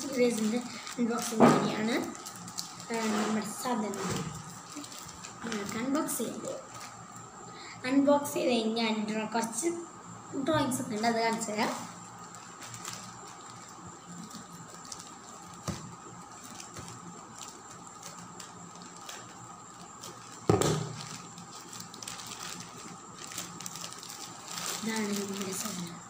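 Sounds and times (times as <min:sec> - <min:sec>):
plastic crinkling: 0:00.0 - 0:07.3, 0:10.7 - 0:26.0.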